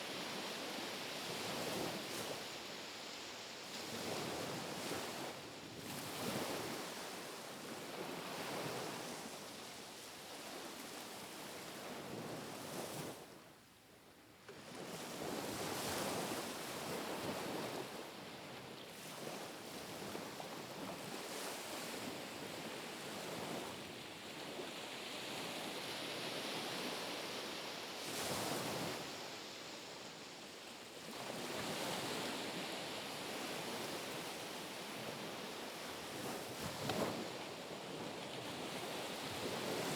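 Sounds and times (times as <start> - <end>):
gentle waves lapping on shore: 0.0 - 13.4, 14.6 - 39.9.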